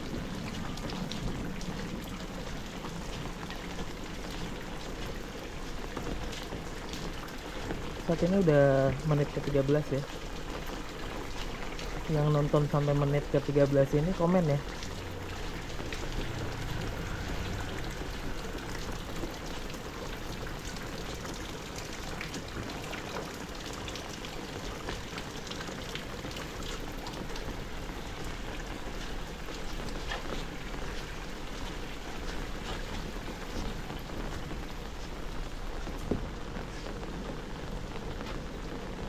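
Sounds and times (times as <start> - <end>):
heavy rain on hard surfaces: 0.0 - 39.0.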